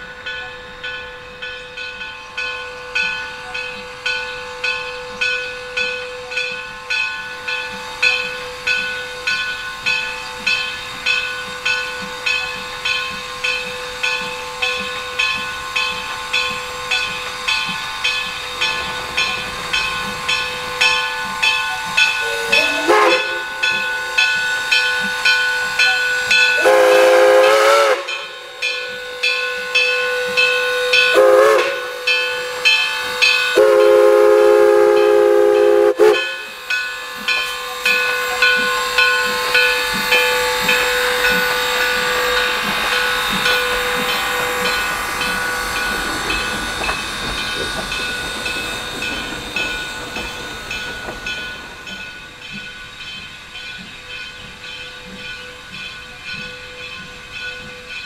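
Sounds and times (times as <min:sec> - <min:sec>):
locomotive bell ringing: 0:00.0 - 0:58.0
steam hiss: 0:00.0 - 0:58.0
steam locomotive whistle: 0:02.2 - 0:52.2.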